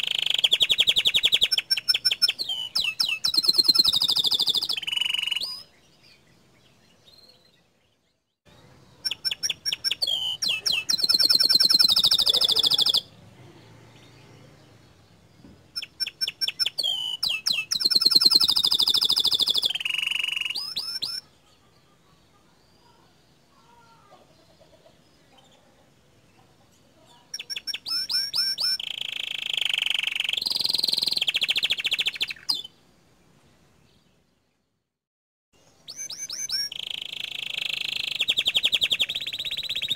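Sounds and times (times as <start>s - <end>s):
canary singing trills: 0.0s - 32.9s, 35.6s - 39.9s.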